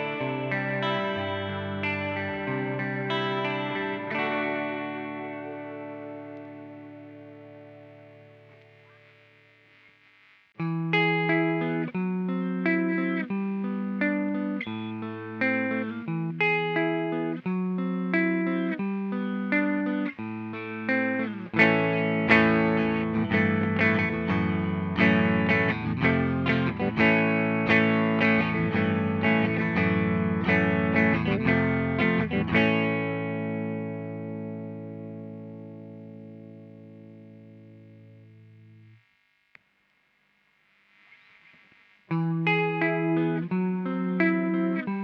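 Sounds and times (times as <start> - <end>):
electric guitar chords: 0.0 - 10.0, 10.6 - 39.5, 40.8 - 45.0.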